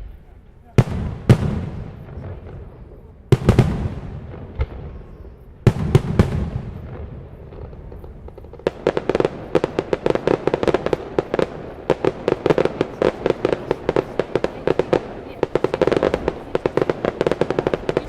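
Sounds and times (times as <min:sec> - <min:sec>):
rapid crackling pops: 0:00.0 - 0:18.0.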